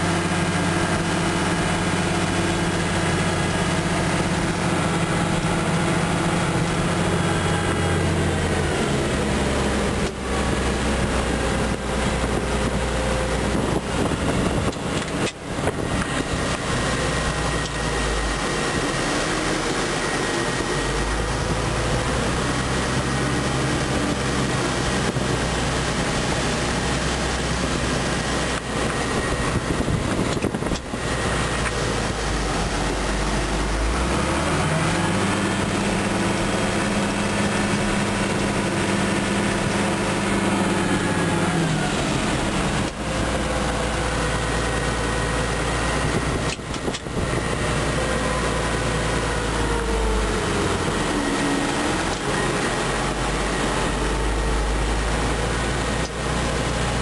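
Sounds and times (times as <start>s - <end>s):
thin steady whine: 0.0s - 57.0s
tractor diesel engine running: 0.0s - 57.0s.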